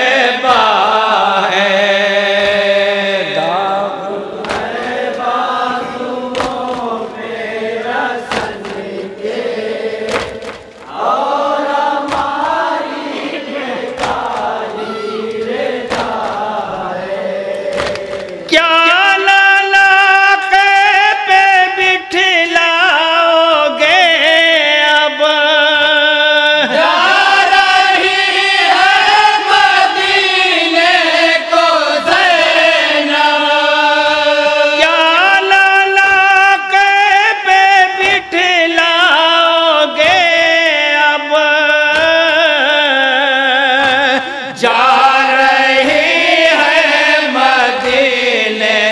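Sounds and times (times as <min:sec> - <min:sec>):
men chanting a lament: 0:00.0 - 0:48.9.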